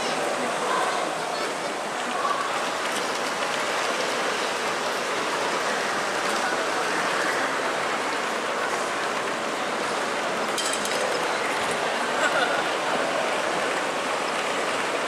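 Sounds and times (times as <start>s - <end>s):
many voices: 0.0s - 15.0s
model trains running: 0.0s - 15.0s.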